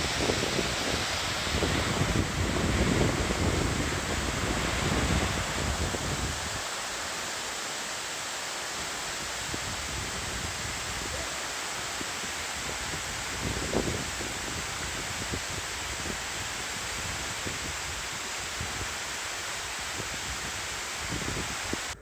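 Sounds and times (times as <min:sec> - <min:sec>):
wind buffeting microphone: 0:00.0 - 0:06.6, 0:09.1 - 0:19.0, 0:19.8 - 0:22.0
waterfall rushing hiss: 0:00.0 - 0:22.0.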